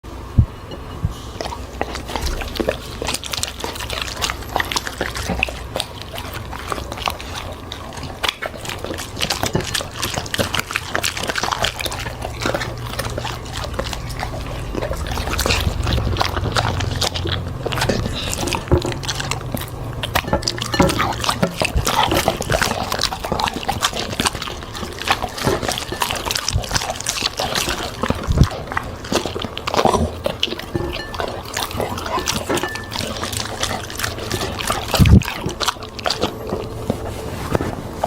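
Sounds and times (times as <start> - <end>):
dog chewing food: 0.0 - 38.0.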